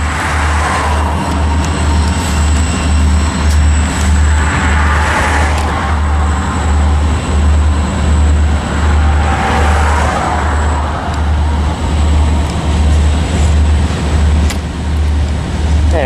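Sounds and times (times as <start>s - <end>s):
freight cars rolling past: 0.0s - 16.0s.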